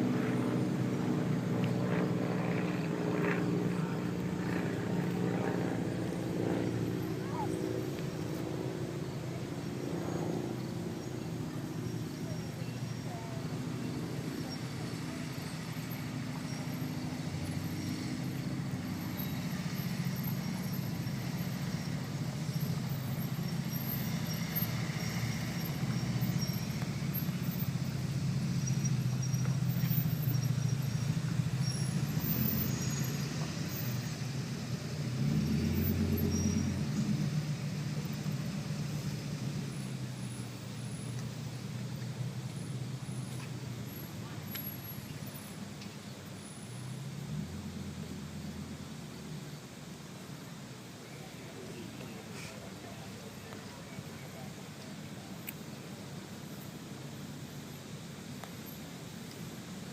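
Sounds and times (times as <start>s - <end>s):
vehicle engines humming: 0.0s - 59.9s.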